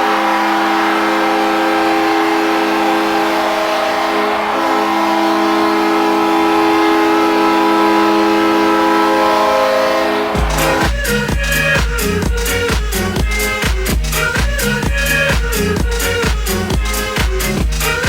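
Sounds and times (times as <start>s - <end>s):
arena goal horn chord: 0.0s - 18.0s.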